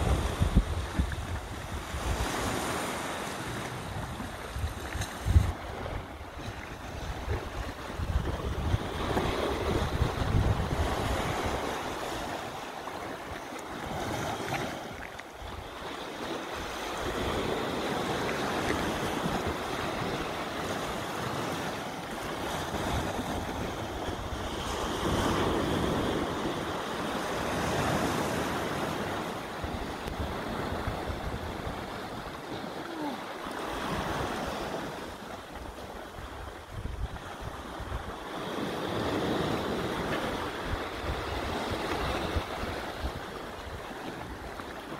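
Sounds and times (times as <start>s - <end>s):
wind buffeting microphone: 0.0s - 12.7s, 15.4s - 32.7s, 33.6s - 44.9s
sea waves washing against rocks: 0.0s - 44.9s.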